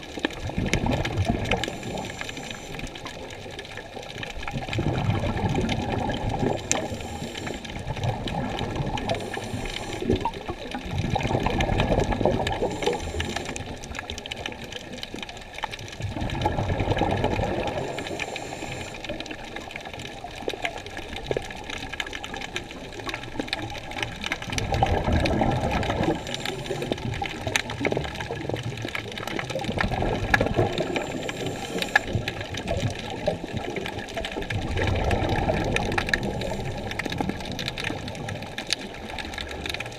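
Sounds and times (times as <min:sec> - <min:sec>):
muffled underwater rush of seawater: 0:00.0 - 0:39.9
small clicks and crackles: 0:00.0 - 0:39.9.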